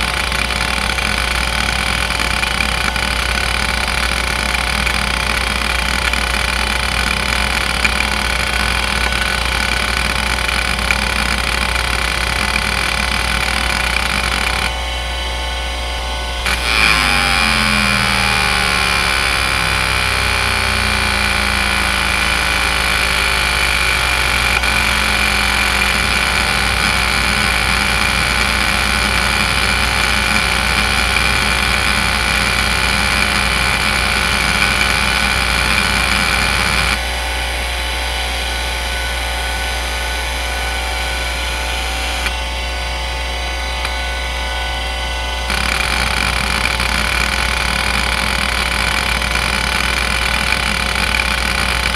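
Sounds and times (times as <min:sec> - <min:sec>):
hard drive head seeking chatter: 0:00.0 - 0:14.8, 0:16.4 - 0:37.0, 0:45.5 - 0:51.9
hard drive spinning whine: 0:00.0 - 0:51.9.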